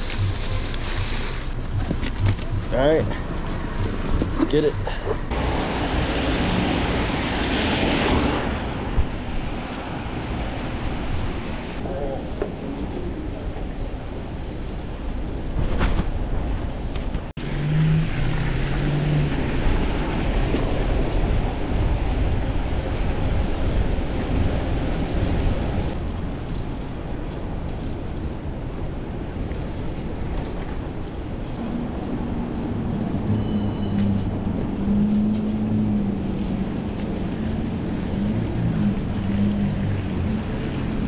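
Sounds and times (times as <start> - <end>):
motor traffic hum: 0.0 - 26.4, 30.3 - 41.0
wind rushing over microphone: 0.0 - 41.0.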